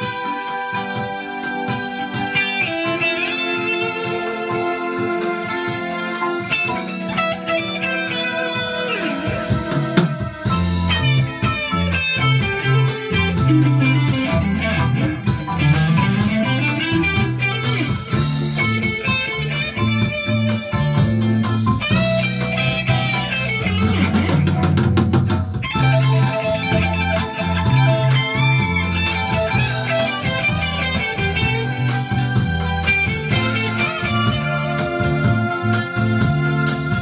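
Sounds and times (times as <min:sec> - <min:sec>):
bass line: 0:00.0 - 0:37.0
electric guitar lead: 0:00.0 - 0:37.0.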